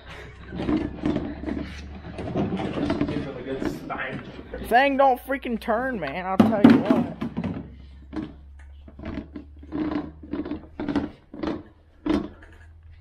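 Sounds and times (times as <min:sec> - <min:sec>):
clunks and scrapes of metal caddy: 0:00.0 - 0:04.7, 0:06.5 - 0:13.0.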